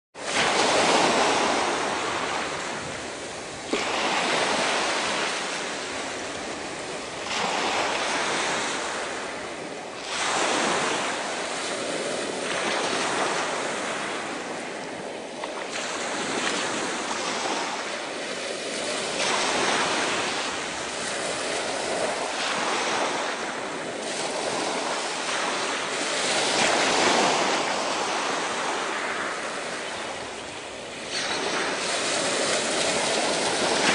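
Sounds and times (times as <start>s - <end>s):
waves washing over pebbles: 0.2s - 33.9s.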